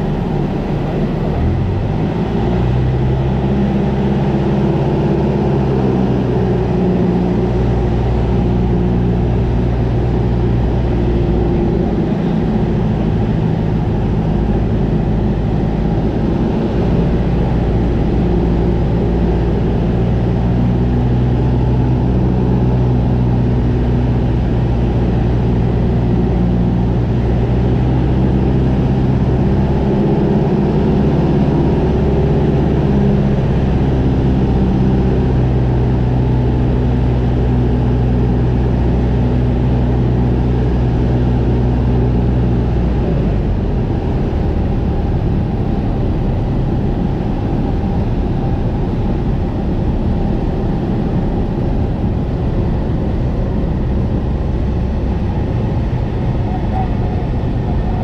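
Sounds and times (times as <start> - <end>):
small plane engine: 0.0 - 58.0
wind and airframe rumble: 0.0 - 58.0.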